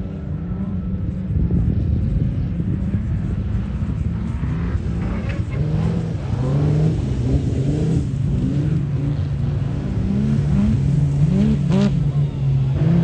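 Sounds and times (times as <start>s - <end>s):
low rumble: 0.0s - 12.8s
car engine revving: 2.0s - 13.0s.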